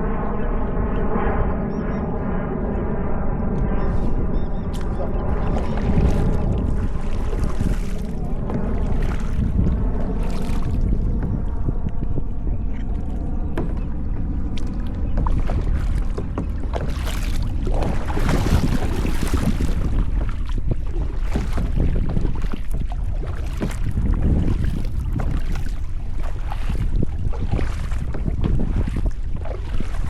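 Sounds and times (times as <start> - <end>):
wind rumble on microphone: 0.0 - 30.0
paddle strokes splashing water: 3.6 - 30.0.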